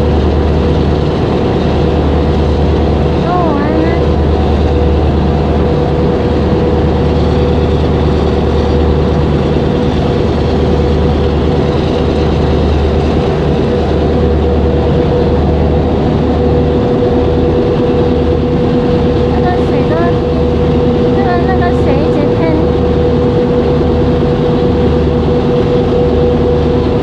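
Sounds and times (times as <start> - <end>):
heavy engine droning: 0.0 - 27.0.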